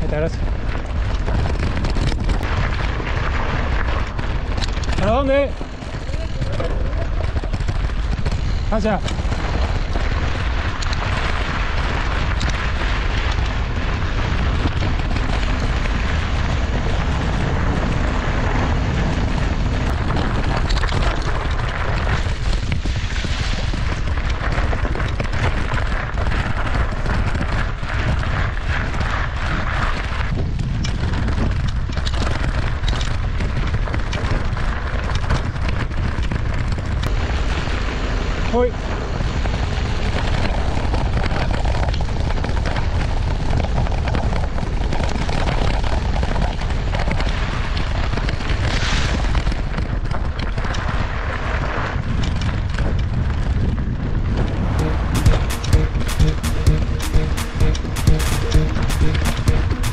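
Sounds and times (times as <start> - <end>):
bike tyres rolling over trail: 0.0 - 54.8
wind buffeting microphone: 0.0 - 54.8.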